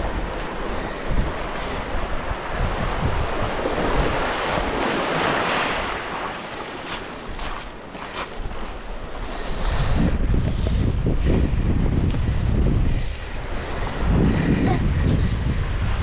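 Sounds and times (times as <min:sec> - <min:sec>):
ocean surf washing ashore: 0:00.0 - 0:16.0
wind buffeting microphone: 0:00.0 - 0:16.0.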